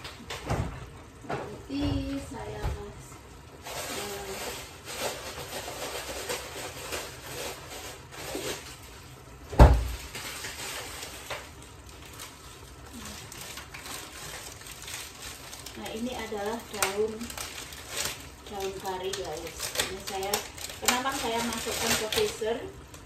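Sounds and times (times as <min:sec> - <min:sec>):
food crackling in saucepan: 0:00.0 - 0:23.0
plastic bag rustling: 0:01.6 - 0:23.0.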